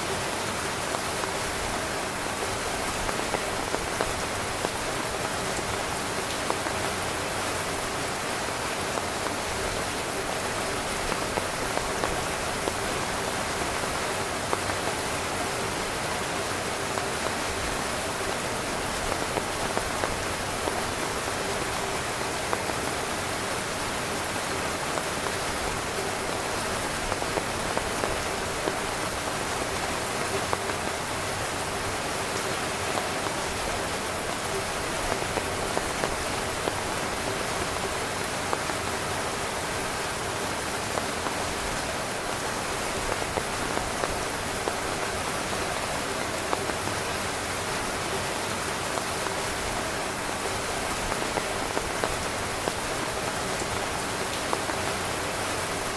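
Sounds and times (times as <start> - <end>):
heavy rain on tent fabric: 0.0 - 55.9.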